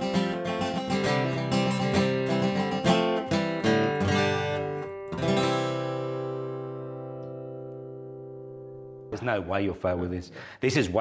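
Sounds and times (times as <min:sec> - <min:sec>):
acoustic guitar strumming chords: 0:00.0 - 0:09.2.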